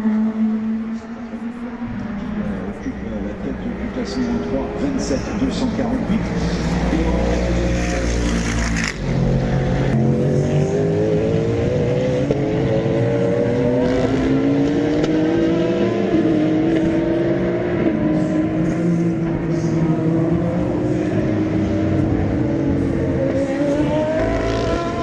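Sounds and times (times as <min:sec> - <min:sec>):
race cars at full throttle: 0:00.0 - 0:25.0.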